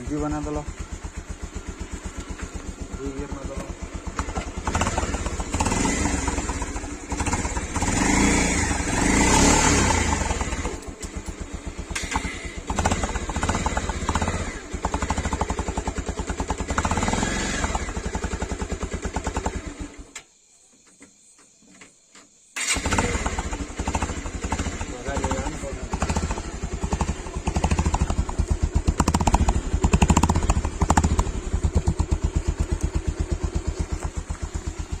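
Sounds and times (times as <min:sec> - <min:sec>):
motorcycle engine revving: 0:00.0 - 0:20.2, 0:22.6 - 0:35.0.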